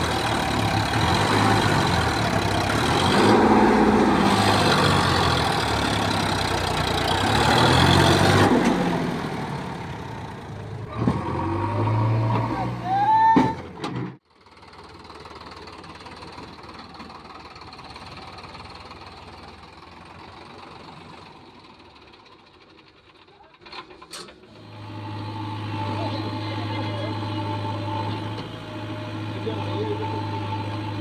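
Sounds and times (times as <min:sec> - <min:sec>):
diesel engine running: 0:00.0 - 0:23.2, 0:24.4 - 0:31.0.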